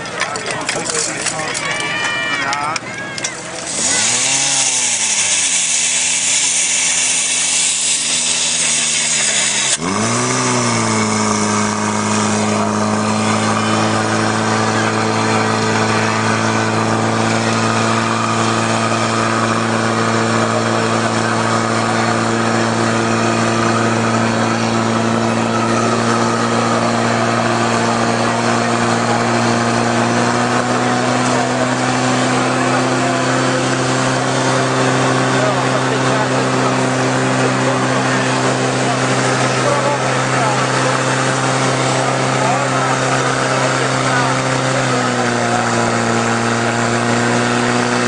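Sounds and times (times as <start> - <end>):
small petrol engine running: 0.0 - 48.0.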